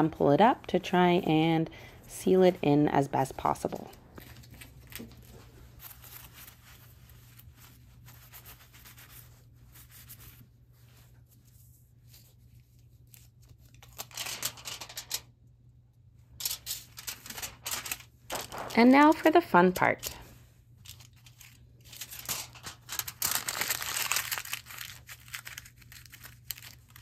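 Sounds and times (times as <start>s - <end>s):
foil and paper towel rustling: 3.4s - 15.2s, 16.4s - 27.0s.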